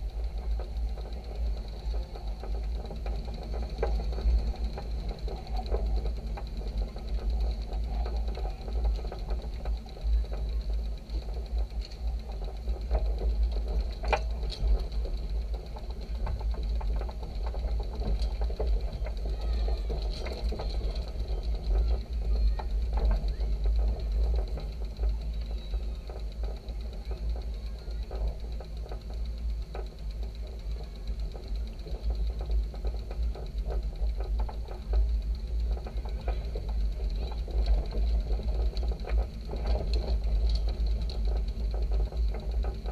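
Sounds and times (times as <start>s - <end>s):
electric scooter motor whine: 0.0s - 42.9s
trailer fittings rattling: 0.0s - 42.9s.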